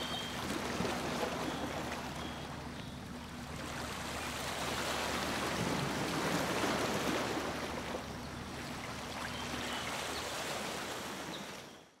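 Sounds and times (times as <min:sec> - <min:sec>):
water rushing along boat hull: 0:00.0 - 0:11.7.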